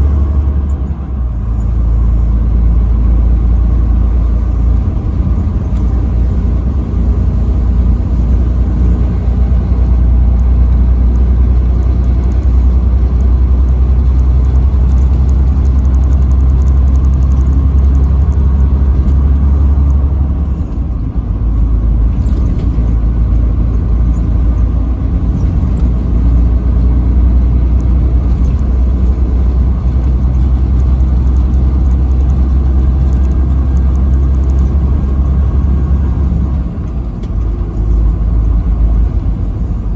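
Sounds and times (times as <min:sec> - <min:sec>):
truck driving on highway: 0:00.0 - 0:39.9.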